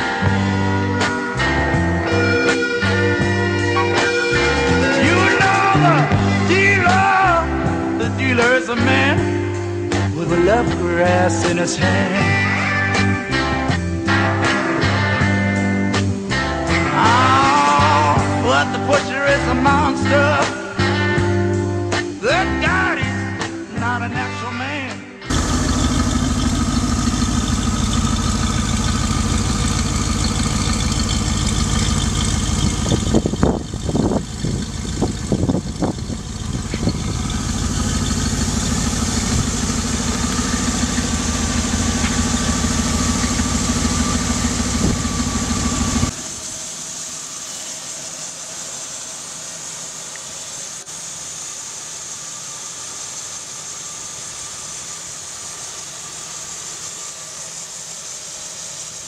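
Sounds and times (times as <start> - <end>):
car engine idling: 0.0 - 18.5, 25.3 - 59.0.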